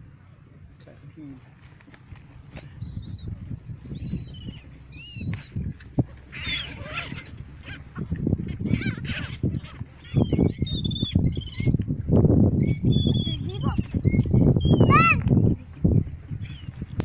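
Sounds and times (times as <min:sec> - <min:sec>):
gulls calling: 0:02.6 - 0:11.8, 0:12.6 - 0:17.0.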